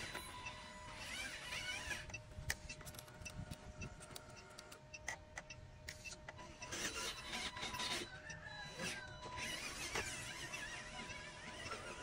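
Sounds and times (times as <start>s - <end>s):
electric motor whine: 0.0s - 4.8s, 5.9s - 12.0s.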